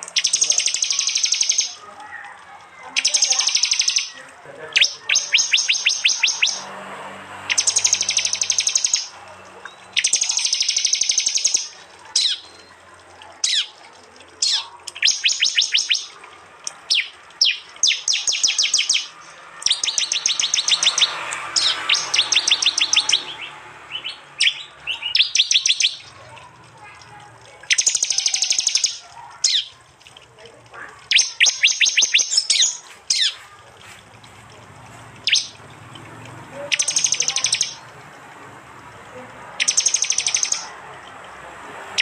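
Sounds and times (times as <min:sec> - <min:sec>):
bird ticking calls: 0:00.0 - 0:33.4, 0:34.2 - 0:42.0.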